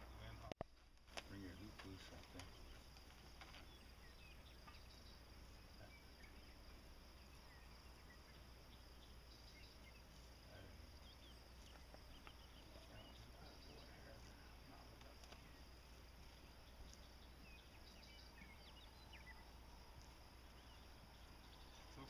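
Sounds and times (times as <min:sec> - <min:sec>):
faint chirps: 0:00.0 - 0:00.6, 0:01.2 - 0:22.0
insect drone: 0:00.0 - 0:22.0.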